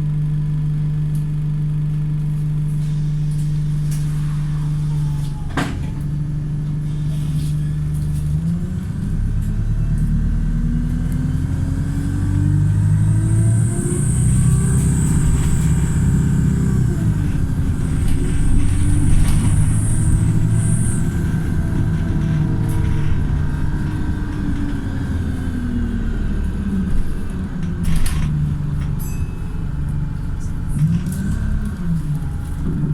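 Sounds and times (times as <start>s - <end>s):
bus diesel engine running: 0.0s - 32.9s.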